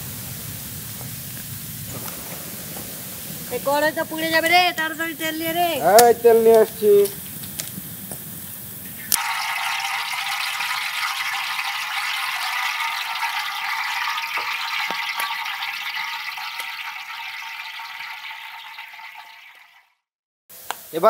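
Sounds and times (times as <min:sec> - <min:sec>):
oil sizzling in a wok: 0:00.0 - 0:05.9, 0:06.9 - 0:19.9, 0:20.5 - 0:21.0.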